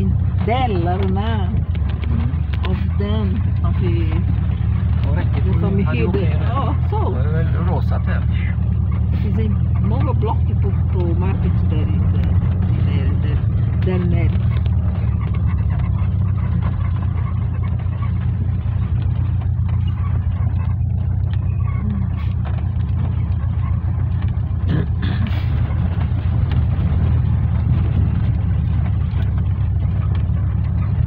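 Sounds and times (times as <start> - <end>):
tyre and road rumble: 0.0 - 31.0
van engine drone: 0.0 - 31.0.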